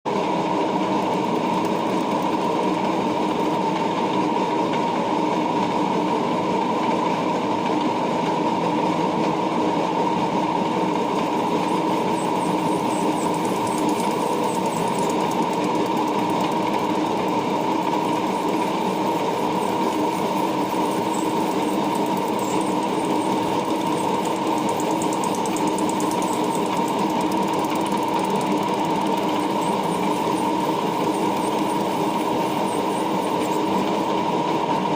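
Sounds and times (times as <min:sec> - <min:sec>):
lathe motor humming: 0:00.2 - 0:04.4, 0:10.5 - 0:34.9.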